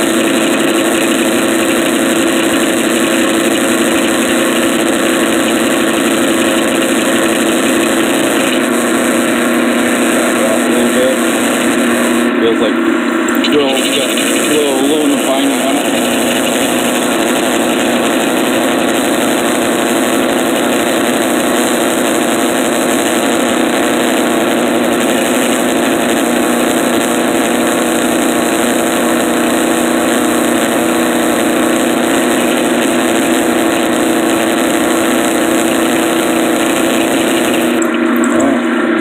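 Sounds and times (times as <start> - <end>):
drill boring into metal: 0.0 - 12.3, 13.2 - 38.2
sawmill engine running: 0.0 - 39.0.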